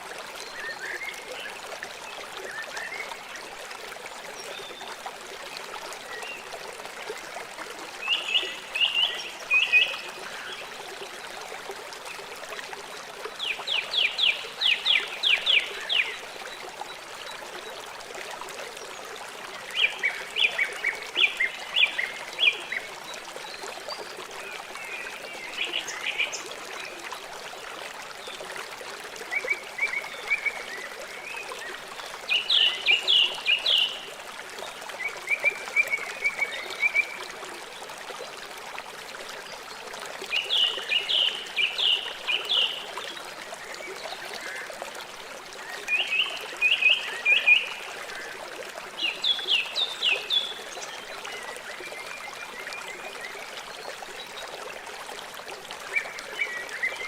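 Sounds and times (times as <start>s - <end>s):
river running: 0.0s - 57.0s.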